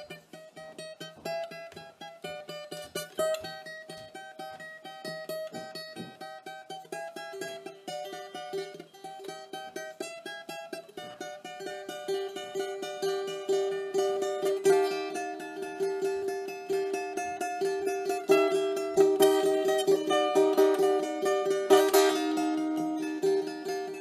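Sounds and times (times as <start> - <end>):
mandolin picking: 0.0 - 24.0.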